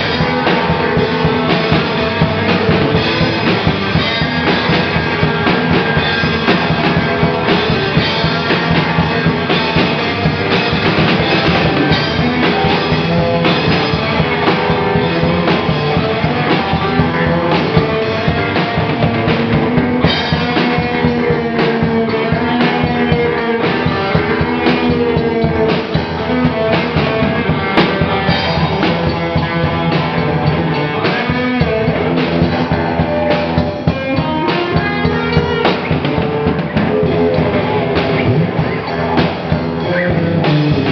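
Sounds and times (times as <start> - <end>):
drums pounding: 0.0 - 40.9
rock band playing live: 0.0 - 40.9.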